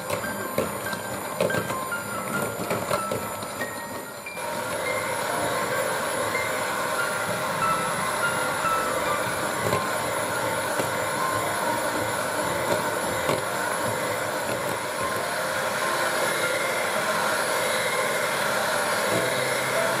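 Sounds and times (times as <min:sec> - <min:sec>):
electric hand mixer whipping cream: 0:00.0 - 0:20.0.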